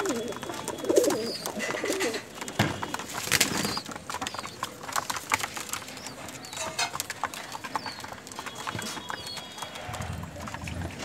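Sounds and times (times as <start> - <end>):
pigeons pecking on concrete: 0.0 - 11.0.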